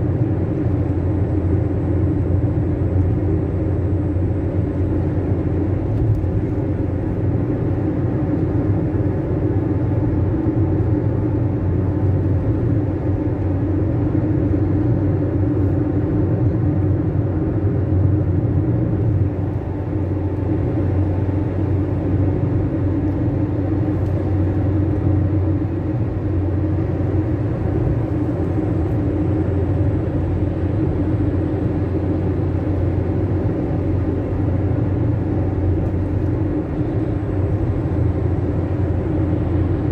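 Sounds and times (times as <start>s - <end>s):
road noise: 0.0s - 39.9s
van engine drone: 0.0s - 39.9s.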